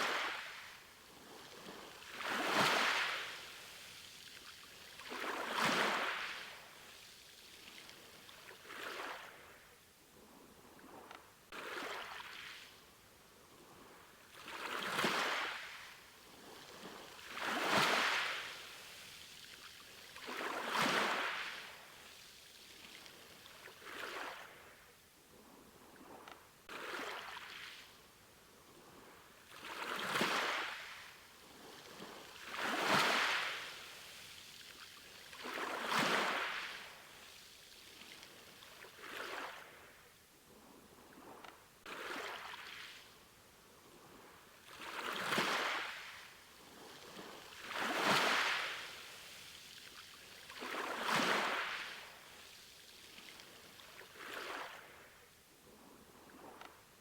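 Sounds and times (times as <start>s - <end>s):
soft steady hiss: 0.0s - 57.0s.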